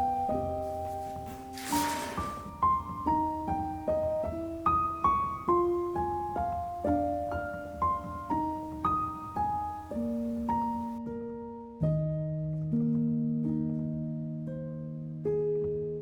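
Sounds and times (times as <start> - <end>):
soft solo piano music: 0.0 - 16.0.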